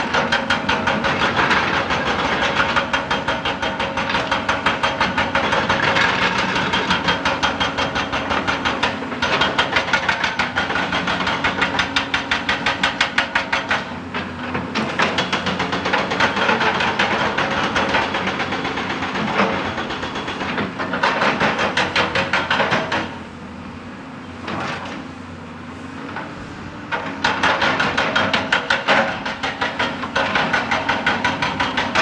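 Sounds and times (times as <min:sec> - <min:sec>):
hydraulic rock breaker hammering: 0:00.0 - 0:23.2, 0:26.9 - 0:32.0
excavator engine running: 0:00.0 - 0:32.0.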